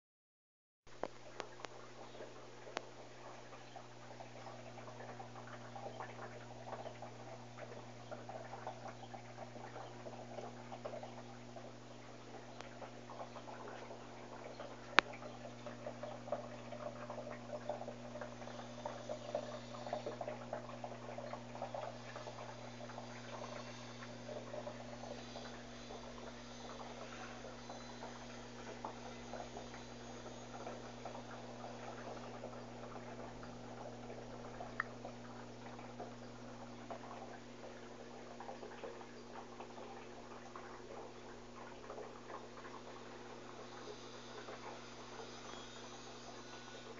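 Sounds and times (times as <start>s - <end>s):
low hum: 0.9s - 46.9s
small clicks and drips: 0.9s - 46.9s
washing machine water crackling: 0.9s - 46.9s.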